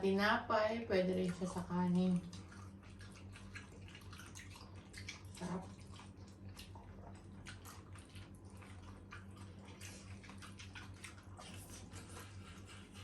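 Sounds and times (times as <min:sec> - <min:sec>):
steady low hum: 0:00.0 - 0:13.0
people chewing and mouth-smacking: 0:01.3 - 0:13.0.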